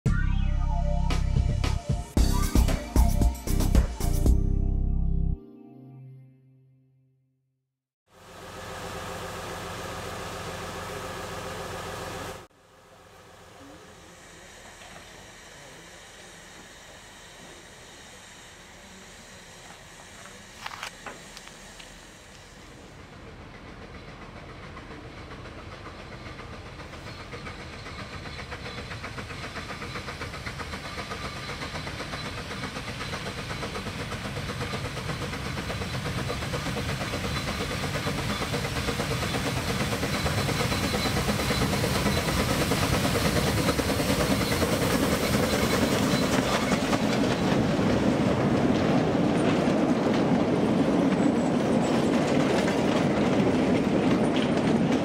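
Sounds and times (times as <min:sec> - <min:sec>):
steam locomotive passing: 0:08.1 - 0:55.0.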